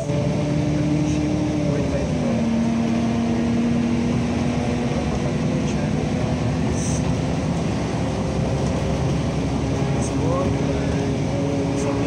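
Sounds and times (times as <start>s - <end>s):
low engine hum: 0.0s - 12.0s
vehicle road rumble: 0.0s - 12.0s.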